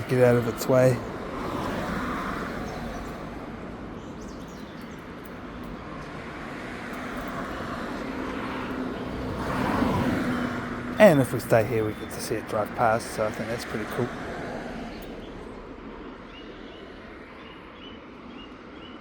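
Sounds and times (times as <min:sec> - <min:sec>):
vehicle engine hum: 0:00.0 - 0:18.3
passing vehicles rushing: 0:00.0 - 0:18.8.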